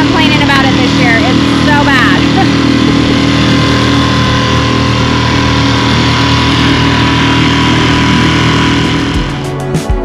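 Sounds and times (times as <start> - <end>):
outboard motor running: 0.0 - 9.8.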